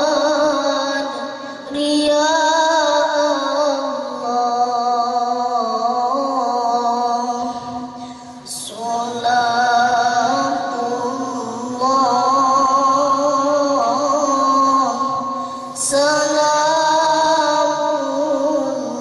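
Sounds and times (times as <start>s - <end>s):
boy reciting melodically over loudspeakers: 0.0s - 19.0s.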